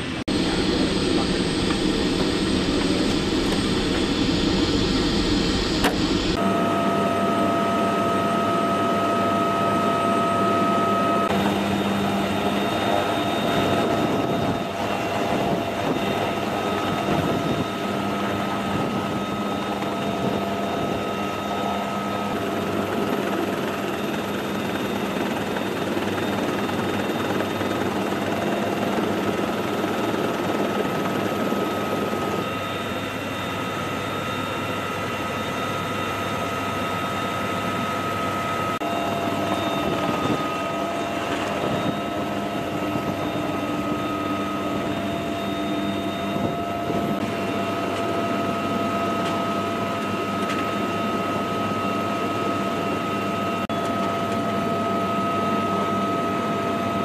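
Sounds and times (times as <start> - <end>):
helicopter engine and rotor noise: 0.0 - 57.0
helicopter turbine whine: 0.0 - 57.0.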